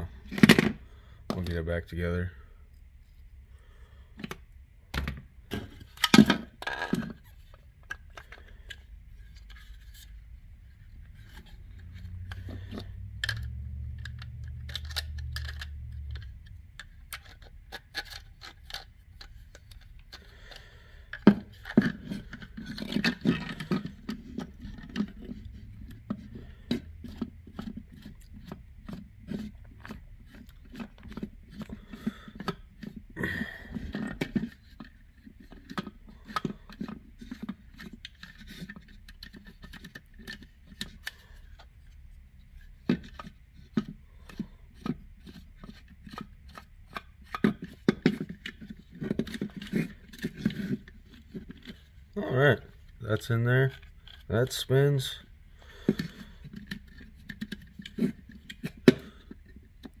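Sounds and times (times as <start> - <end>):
plastic parts clicking and knocking: 0.0 - 1.7, 4.2 - 60.0.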